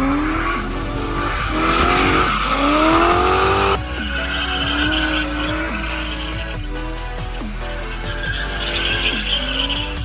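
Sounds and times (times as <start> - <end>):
background music: 0.0 - 10.0
car engine at high revs: 0.0 - 10.0
tyres screeching: 0.0 - 10.0.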